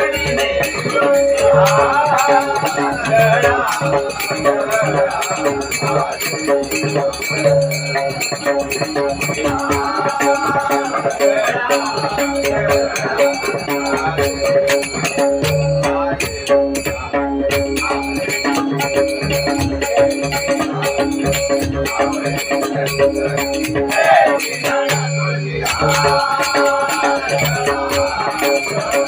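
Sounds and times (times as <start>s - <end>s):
drum beats: 0.0s - 29.0s
hand cymbals struck: 0.0s - 29.0s.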